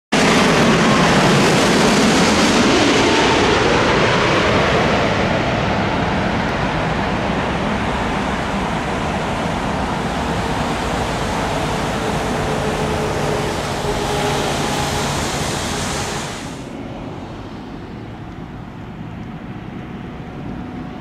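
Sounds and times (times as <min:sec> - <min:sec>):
jet engines roaring overhead: 0:00.1 - 0:21.0.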